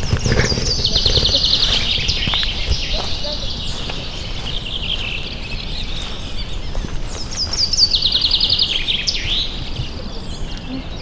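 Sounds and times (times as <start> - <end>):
songbird singing with trill: 0.0 - 11.0.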